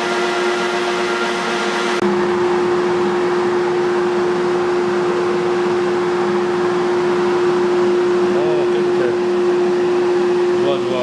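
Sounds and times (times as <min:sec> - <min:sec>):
power tool motor running: 0:00.0 - 0:11.0.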